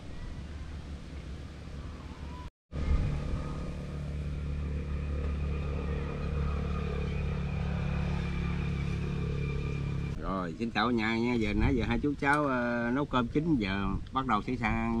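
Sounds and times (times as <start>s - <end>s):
engine running steadily: 0.0s - 12.5s.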